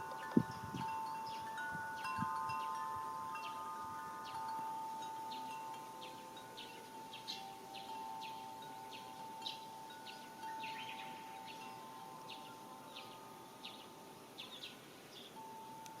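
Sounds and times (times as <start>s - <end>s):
wind bell ringing: 0.0s - 16.0s
bird chirping: 0.1s - 16.0s.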